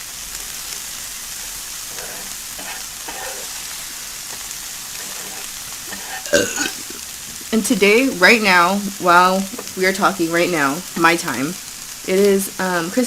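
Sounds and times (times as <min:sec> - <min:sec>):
food sizzling on a grill: 0:00.0 - 0:13.0.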